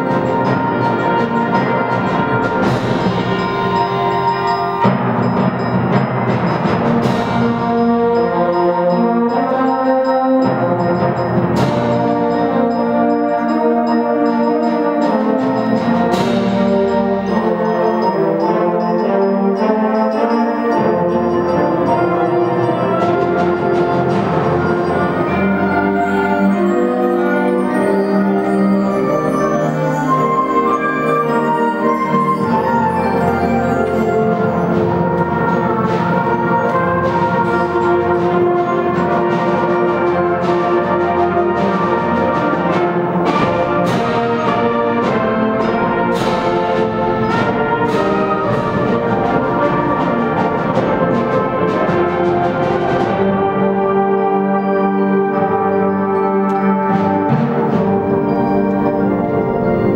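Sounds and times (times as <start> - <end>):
brass and woodwind chords: 0.0 - 59.9
percussion strikes: 0.0 - 59.9.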